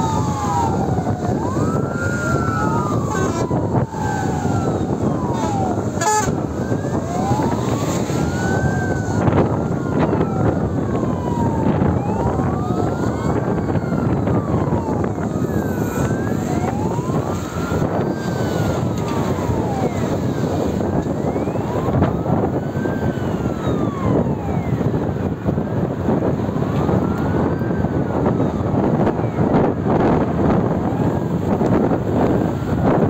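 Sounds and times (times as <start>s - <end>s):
fire engine siren wailing: 0.0s - 33.0s
higher siren: 0.0s - 33.0s
vehicle road and engine noise: 0.0s - 33.0s.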